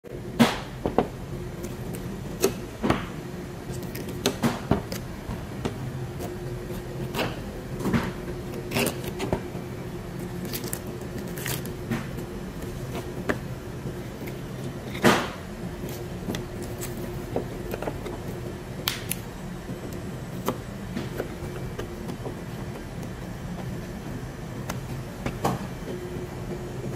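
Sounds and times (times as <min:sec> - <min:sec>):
steady low hum: 0:00.1 - 0:26.9.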